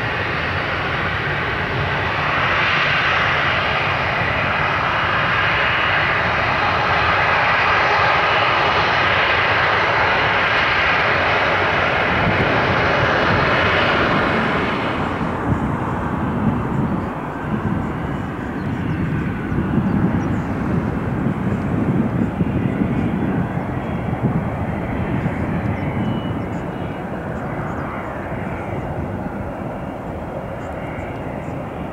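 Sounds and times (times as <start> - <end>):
jet engine roar with whine: 0.0 - 31.9.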